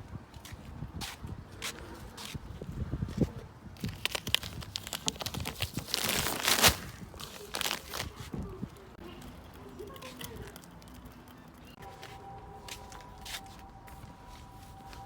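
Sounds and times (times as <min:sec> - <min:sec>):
rustling and crinkling: 0:01.1 - 0:15.0.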